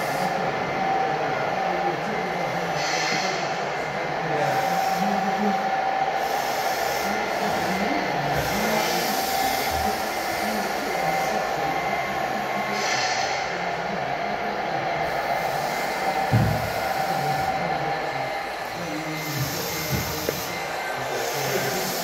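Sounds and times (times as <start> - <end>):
murmur of voices: 0.0 - 22.0.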